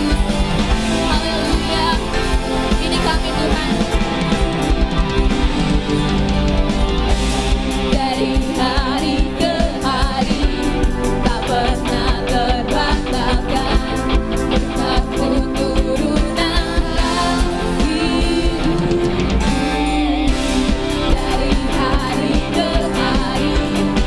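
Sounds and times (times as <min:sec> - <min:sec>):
worship band music with singing: 0:00.0 - 0:24.0.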